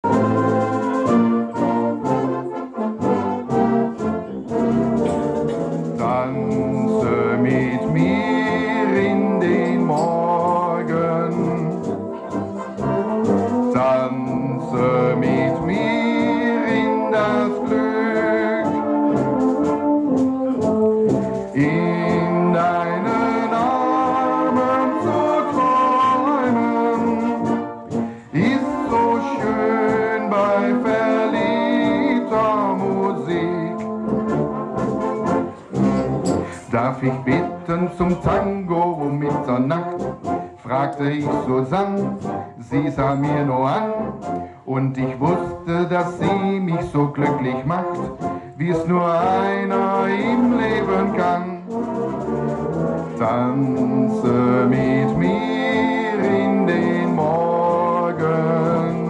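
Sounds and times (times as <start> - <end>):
brass instruments playing melody: 0.0 - 59.0.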